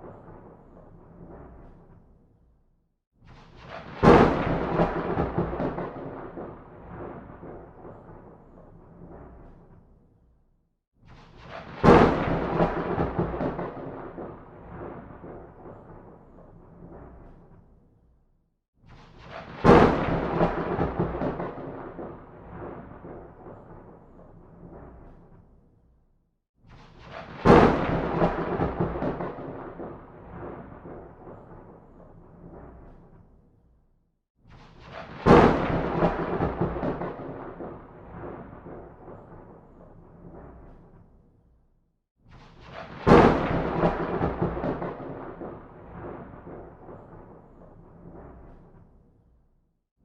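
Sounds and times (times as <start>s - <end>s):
thunderclap: 0.0s - 2.2s, 3.2s - 10.0s, 11.0s - 17.8s, 18.8s - 25.6s, 26.7s - 33.4s, 34.5s - 41.2s, 42.3s - 49.1s.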